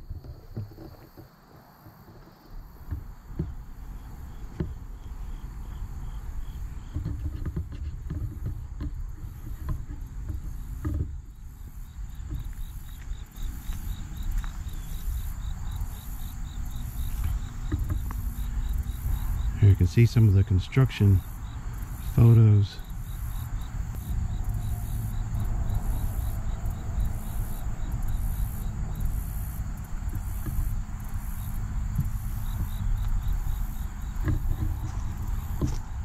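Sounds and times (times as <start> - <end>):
insects chirping: 0.0 - 36.0
low uneven rumble: 2.0 - 36.0.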